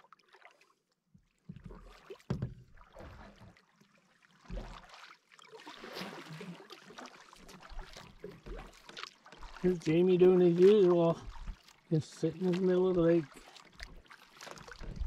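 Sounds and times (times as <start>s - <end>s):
paddle strokes in water: 0.0s - 15.0s
water dripping and lapping: 0.0s - 15.0s.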